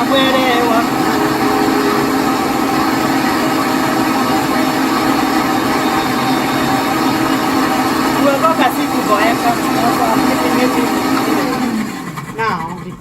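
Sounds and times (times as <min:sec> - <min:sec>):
blender running: 0:00.0 - 0:12.7.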